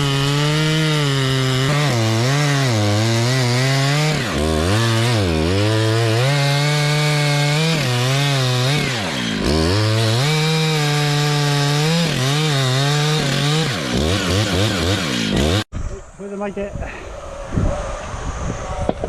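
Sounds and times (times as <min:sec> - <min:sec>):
chainsaw cutting wood: 0:00.0 - 0:15.7.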